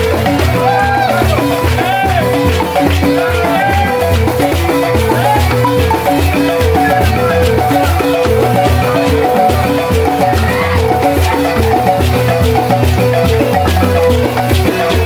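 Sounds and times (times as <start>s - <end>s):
rattle shaking: 0.0s - 15.0s
wooden xylophone fast pattern: 0.0s - 15.0s.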